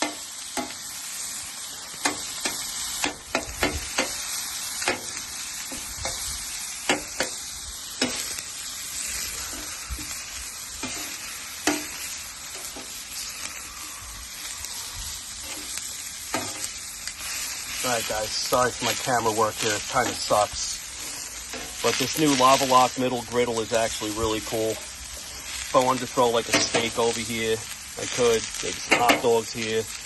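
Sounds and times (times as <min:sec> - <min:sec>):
meat sizzling on a griddle: 0:00.0 - 0:30.0.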